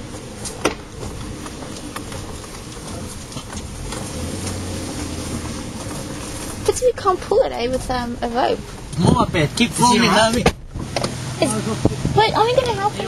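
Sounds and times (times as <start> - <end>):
vehicle rumbling over rough ground: 0.0 - 13.0.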